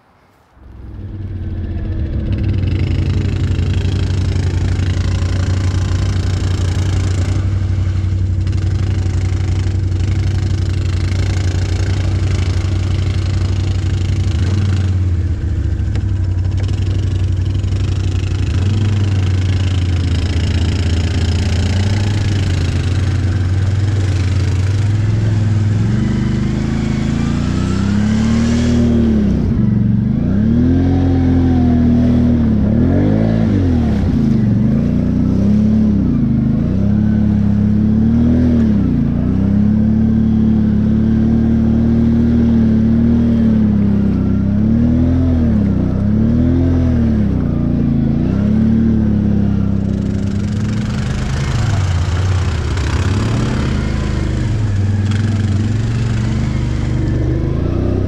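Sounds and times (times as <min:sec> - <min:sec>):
atv engine revving: 0:00.6 - 0:58.0.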